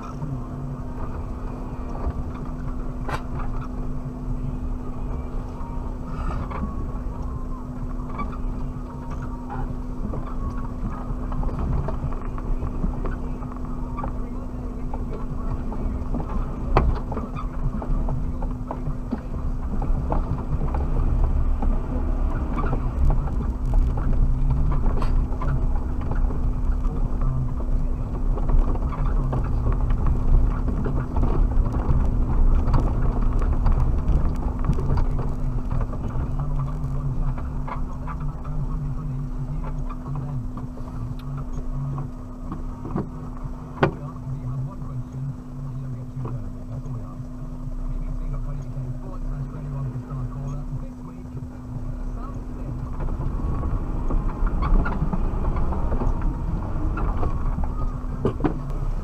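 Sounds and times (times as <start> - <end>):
body and suspension rattling: 0.0 - 59.0
car engine humming: 0.0 - 59.0.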